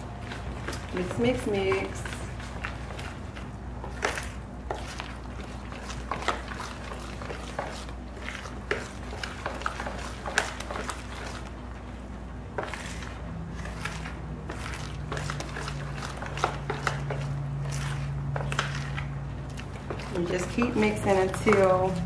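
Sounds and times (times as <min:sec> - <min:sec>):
spoon scraping mixing bowl: 0:00.0 - 0:11.8, 0:12.4 - 0:22.0
low steady hum: 0:00.0 - 0:22.0.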